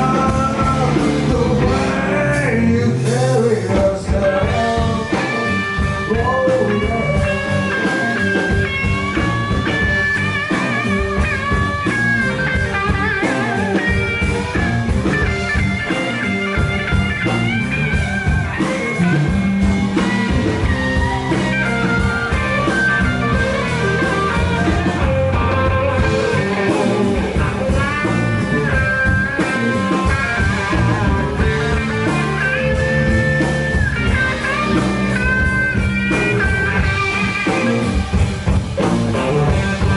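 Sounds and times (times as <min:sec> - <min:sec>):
bass guitar: 0:00.0 - 0:39.9
drums: 0:00.0 - 0:39.9
electric guitar lead: 0:00.0 - 0:39.9.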